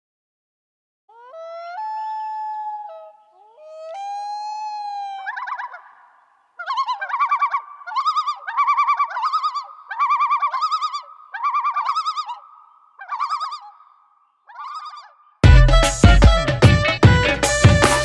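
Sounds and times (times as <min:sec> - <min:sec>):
bird-like warbling calls: 0:01.1 - 0:16.0.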